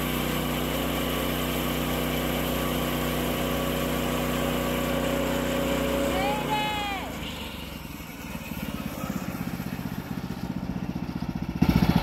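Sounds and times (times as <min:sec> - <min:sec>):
bandsaw sawmill cutting log: 0:00.0 - 0:12.0.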